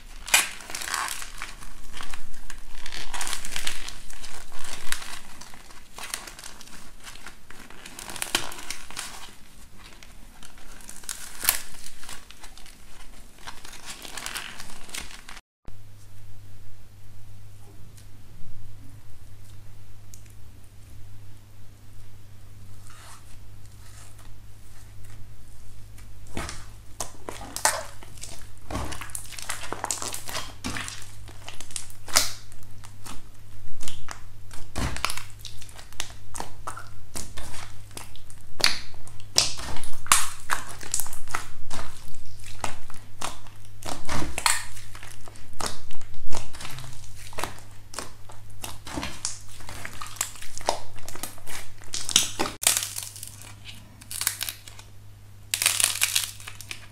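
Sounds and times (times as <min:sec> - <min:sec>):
slime squished by hands: 0:00.0 - 0:15.4, 0:25.8 - 0:56.9.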